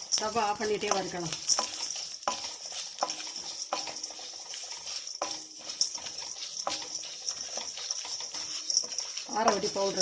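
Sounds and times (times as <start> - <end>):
spatula clinking against pan: 0.0 - 10.0
spices rustling in a pan: 0.0 - 10.0.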